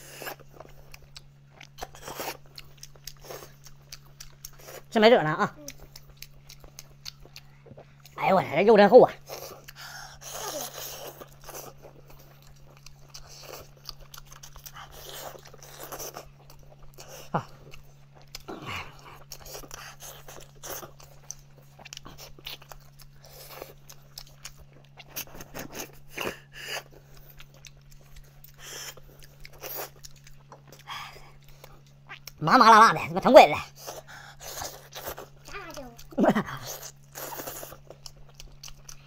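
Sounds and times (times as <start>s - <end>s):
biting and chewing meat: 0.0s - 8.6s, 9.2s - 32.5s, 33.6s - 39.0s.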